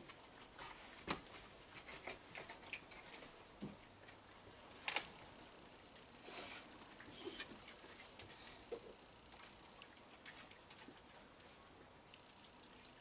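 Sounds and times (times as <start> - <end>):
raccoons chewing and crunching: 0.0 - 13.0.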